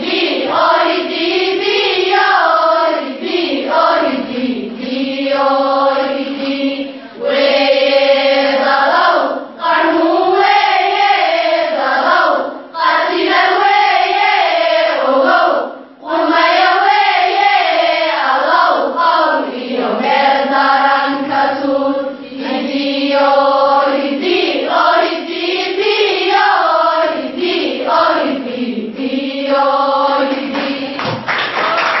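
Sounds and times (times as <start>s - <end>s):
girls chanting in unison: 0.0s - 31.0s.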